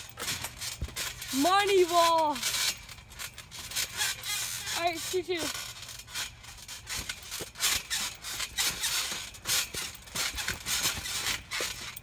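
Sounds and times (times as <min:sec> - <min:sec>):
trampoline springs creaking: 0:00.0 - 0:12.0.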